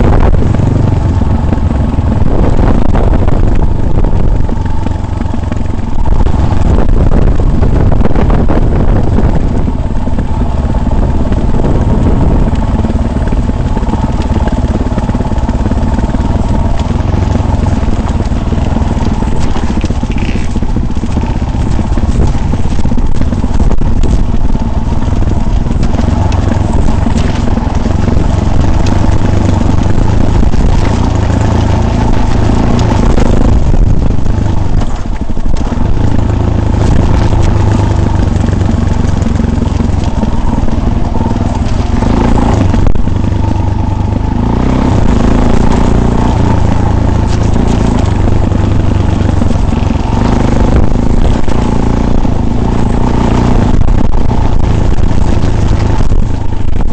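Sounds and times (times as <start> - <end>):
off-road vehicle rumble: 0.0 - 56.9
rattling and clatter: 0.0 - 56.9.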